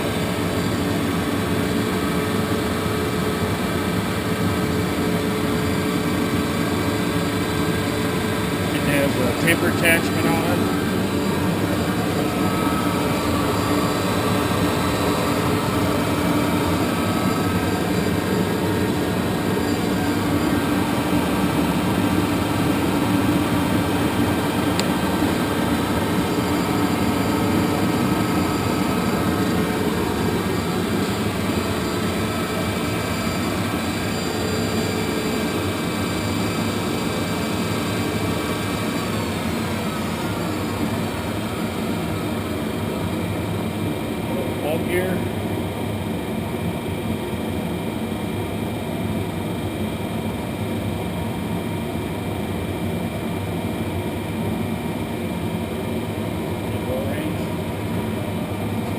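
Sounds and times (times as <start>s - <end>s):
lathe running with whining hum: 0.0s - 58.9s.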